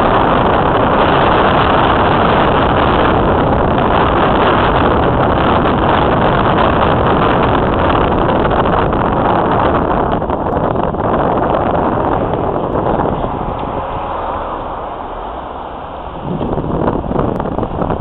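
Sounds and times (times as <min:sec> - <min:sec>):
road noise: 0:00.0 - 0:18.0
wind buffeting microphone: 0:00.0 - 0:18.0
wind rush: 0:00.0 - 0:18.0.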